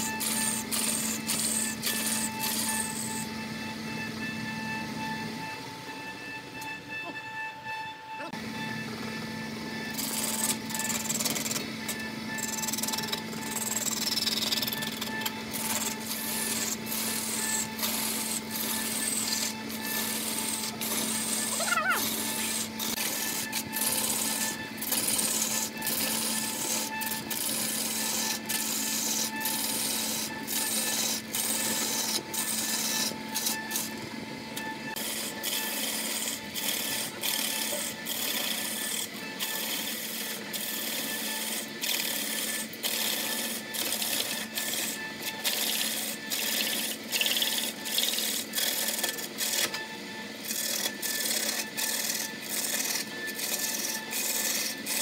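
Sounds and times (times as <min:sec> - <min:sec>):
gouge cutting wood on lathe: 0:00.0 - 0:55.0.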